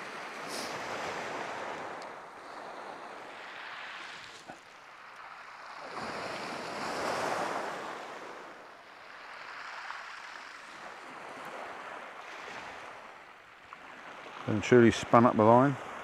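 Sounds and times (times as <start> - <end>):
waves breaking on shingle beach: 0.0 - 16.0.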